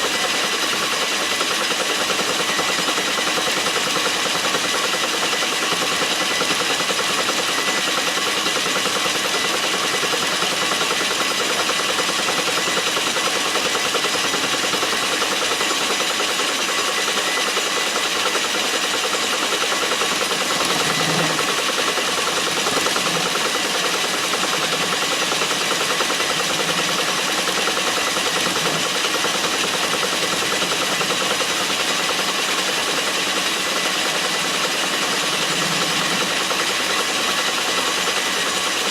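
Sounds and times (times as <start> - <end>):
metal lathe humming: 0.0 - 38.9.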